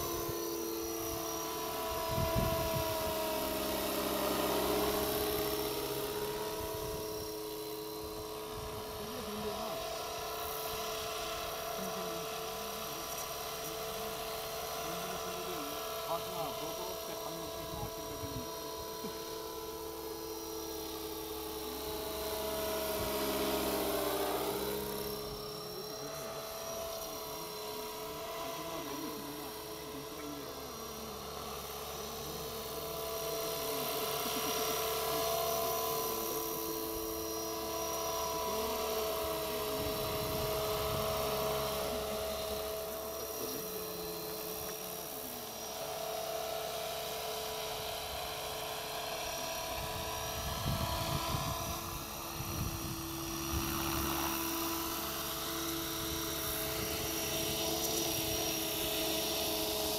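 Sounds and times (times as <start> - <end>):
rc helicopter motor whine: 0.0 - 59.9.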